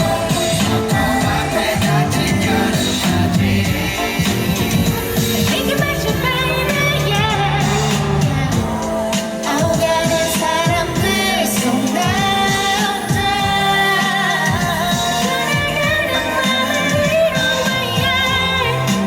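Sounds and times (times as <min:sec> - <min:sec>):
backing track with bass: 0:00.0 - 0:19.0
woman singing pop song: 0:00.0 - 0:19.0.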